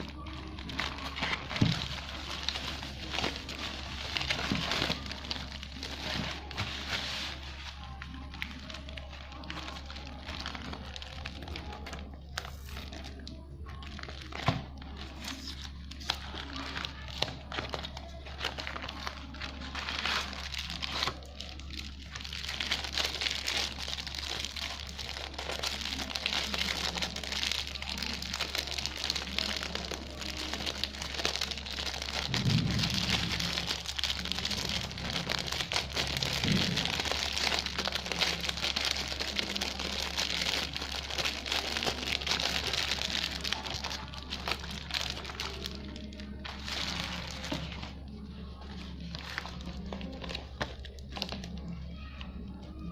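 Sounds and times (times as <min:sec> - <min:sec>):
packaging crackling and rustling: 0:00.0 - 0:51.7.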